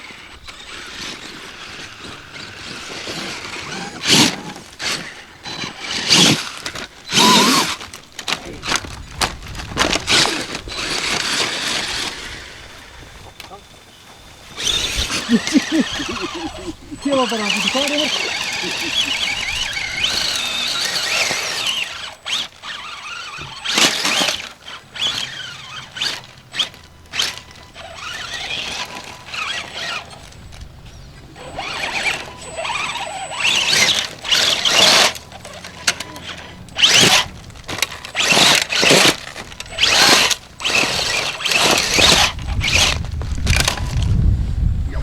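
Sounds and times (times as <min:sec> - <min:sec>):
toy car motor whining: 0:00.0 - 0:44.7.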